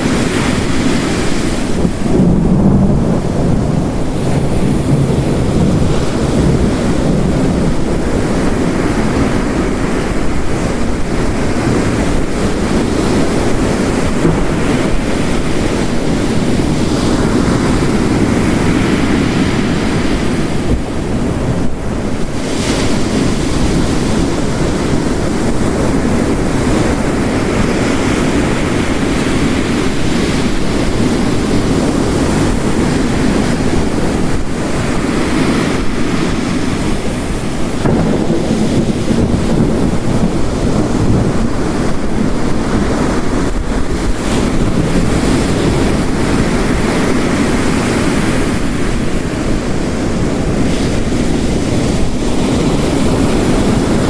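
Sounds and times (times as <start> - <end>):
heavy rain: 0.0 - 54.0
ocean waves crashing: 0.0 - 54.0.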